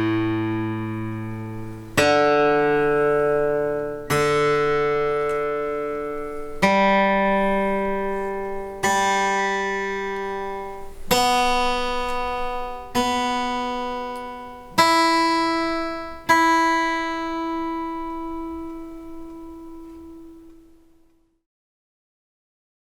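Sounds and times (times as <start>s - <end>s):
acoustic guitar chords strummed: 0.0s - 21.3s.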